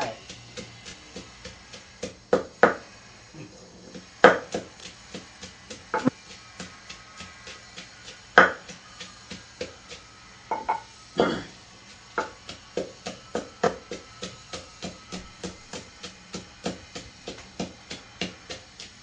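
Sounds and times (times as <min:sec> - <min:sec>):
pestle pounding in a mortar: 0:00.0 - 0:03.0, 0:03.8 - 0:19.0.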